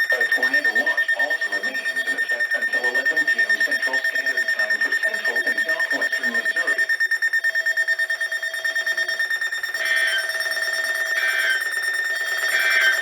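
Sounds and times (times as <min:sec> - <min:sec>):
rapid high-pitched alarm beeping: 0:00.0 - 0:13.0
two-tone alarm warble: 0:00.0 - 0:13.0.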